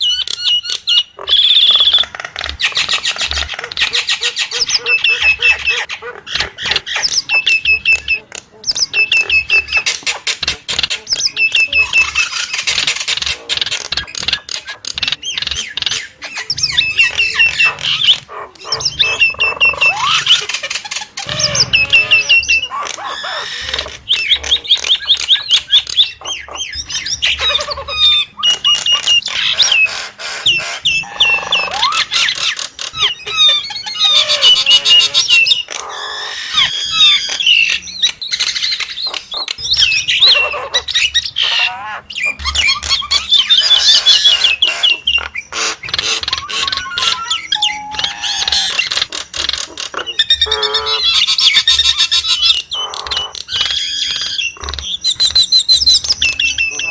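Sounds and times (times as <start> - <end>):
myna whistling and squawking: 0.0 - 56.9.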